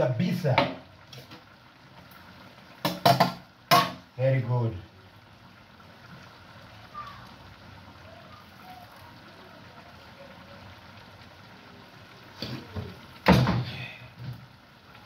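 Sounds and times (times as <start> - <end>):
stew bubbling in a pot: 0.0 - 15.0.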